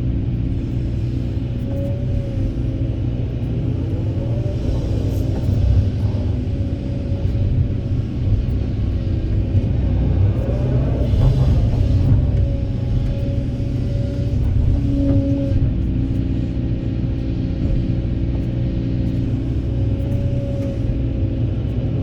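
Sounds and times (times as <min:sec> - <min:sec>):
excavator diesel engine rumbling: 0:00.0 - 0:22.0
hydraulic whine: 0:00.0 - 0:22.0.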